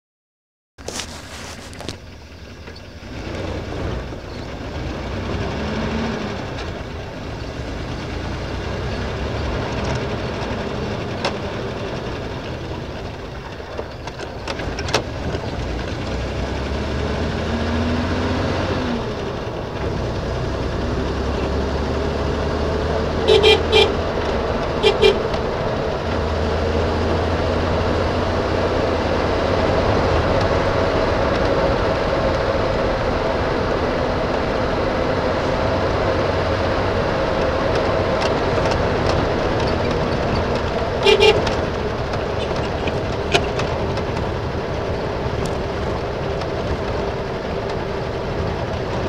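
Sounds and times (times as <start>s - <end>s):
car engine running: 0.8s - 49.0s
wind and road noise: 0.8s - 49.0s.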